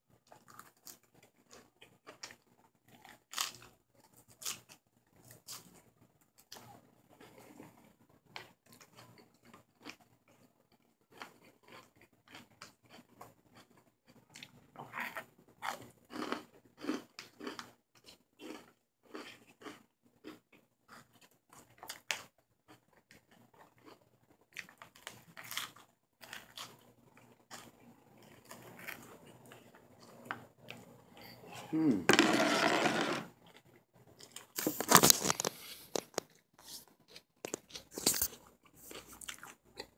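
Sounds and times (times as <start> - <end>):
chewing and crunching salad: 0.2 - 5.8, 6.4 - 30.9, 34.2 - 39.9.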